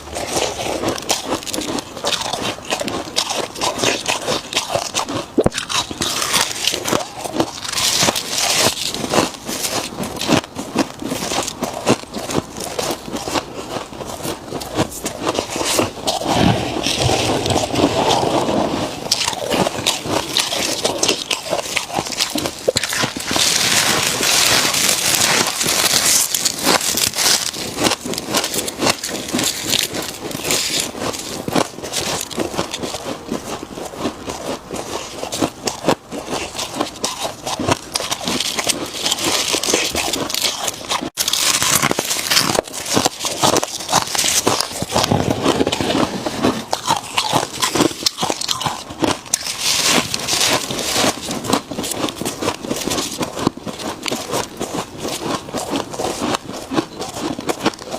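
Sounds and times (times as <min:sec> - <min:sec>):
frost crunching as eaten: 0:00.0 - 0:57.9.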